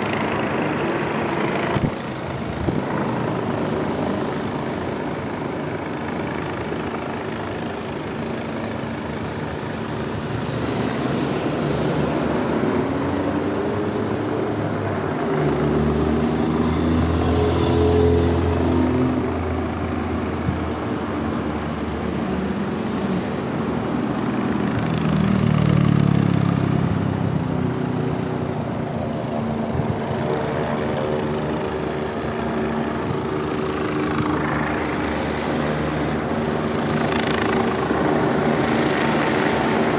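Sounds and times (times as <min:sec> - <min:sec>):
helicopter engine and rotor: 0:00.0 - 0:39.9
street traffic: 0:00.0 - 0:39.9
vehicles driving past: 0:00.0 - 0:39.9.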